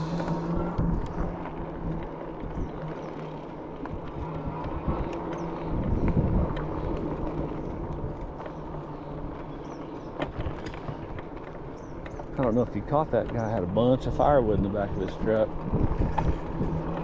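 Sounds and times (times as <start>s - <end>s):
tyre and road rumble: 0.0s - 17.0s.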